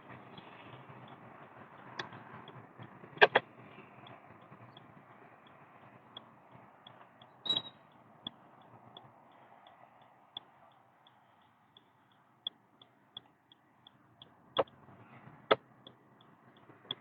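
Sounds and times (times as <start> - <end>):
faint road noise: 0.0 - 17.0
turn signal indicator ticking: 0.9 - 17.0
sharp clicks: 3.2 - 17.0.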